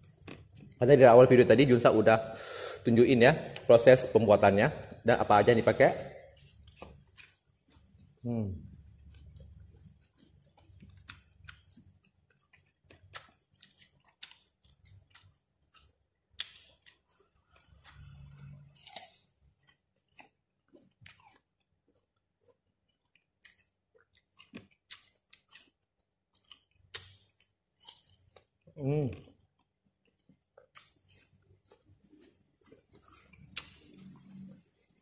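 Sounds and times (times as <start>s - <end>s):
wet chewing and mouth clicks: 0.0s - 0.8s, 6.3s - 35.0s.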